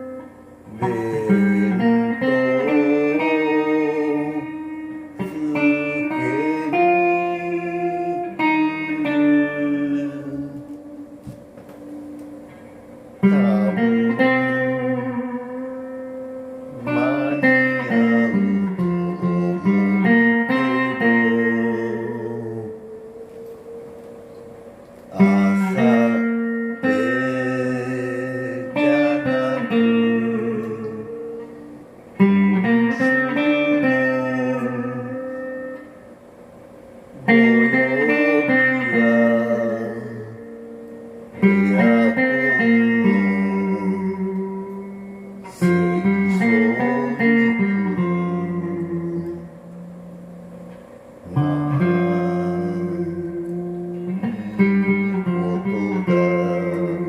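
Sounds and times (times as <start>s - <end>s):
guitar chords ringing: 0.0s - 57.0s.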